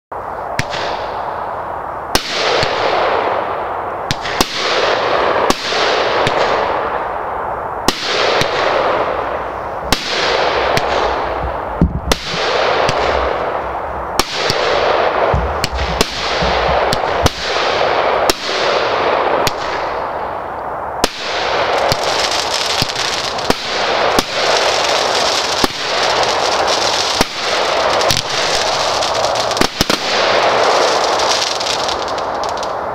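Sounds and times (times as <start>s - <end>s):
firework shots with hiss: 0.4s - 32.9s.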